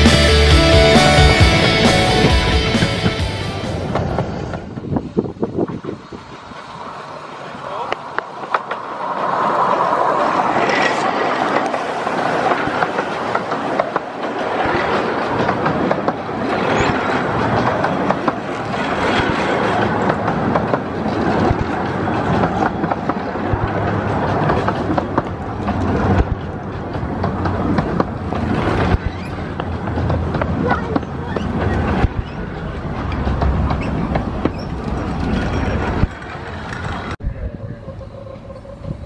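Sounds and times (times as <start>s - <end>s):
train wheels clicking on rails: 0.0s - 37.2s
miniature steam locomotive passing: 0.0s - 39.0s.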